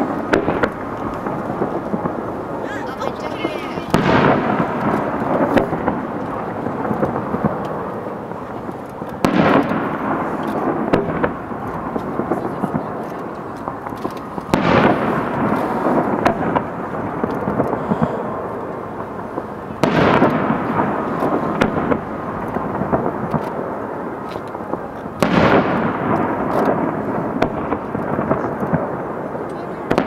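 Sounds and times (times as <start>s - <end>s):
firework shells booming: 0.0s - 30.0s
small firework crackles: 0.0s - 30.0s.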